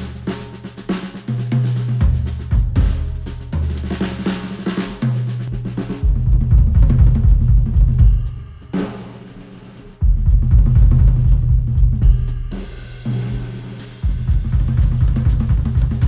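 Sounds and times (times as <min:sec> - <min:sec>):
drum-heavy instrumental music: 0:00.0 - 0:16.0.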